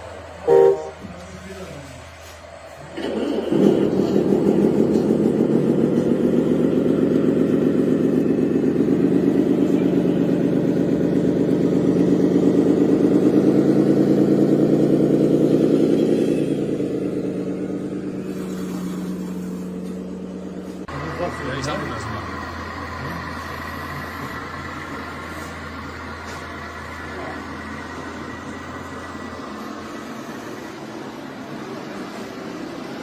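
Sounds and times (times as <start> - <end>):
vehicle engine pulsing: 0.0 - 33.0.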